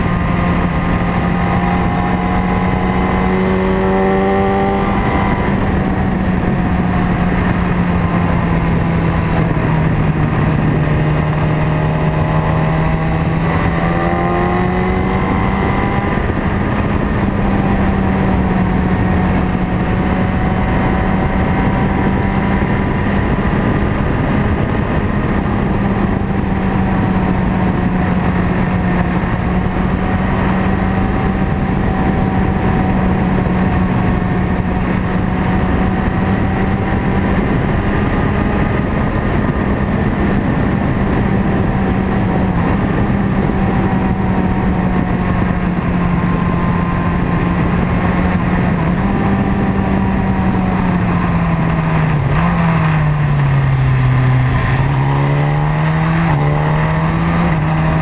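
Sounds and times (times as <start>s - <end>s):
vehicle engine running: 0.0s - 58.0s
wind and road noise: 0.0s - 58.0s.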